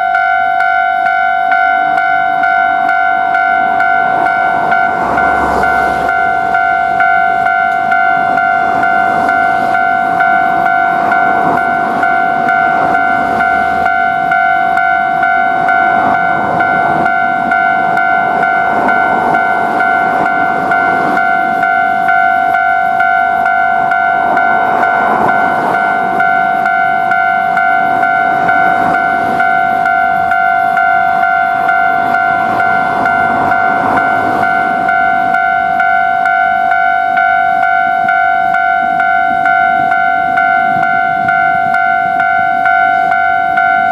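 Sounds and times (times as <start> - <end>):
level-crossing bell ringing: 0.0 - 43.9
train running past: 0.0 - 43.9.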